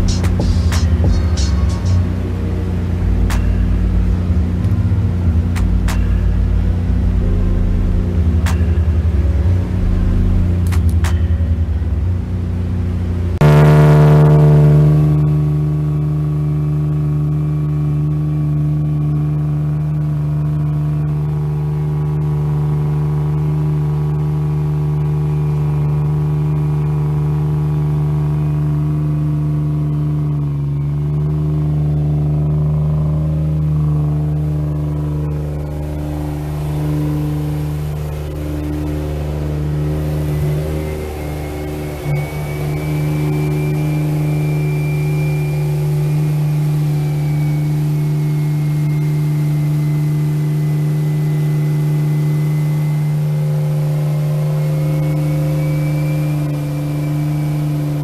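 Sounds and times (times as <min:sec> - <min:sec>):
car engine droning: 0:00.0 - 0:58.0
faint rising whine: 0:00.0 - 0:58.0.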